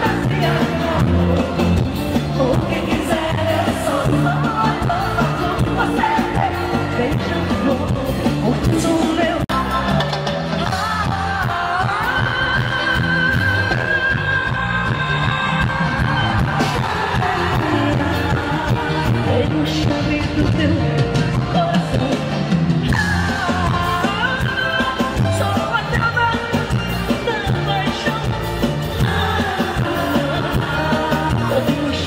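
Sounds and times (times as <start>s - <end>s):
live band playing: 0.0s - 32.0s
woman singing into a microphone: 0.0s - 32.0s.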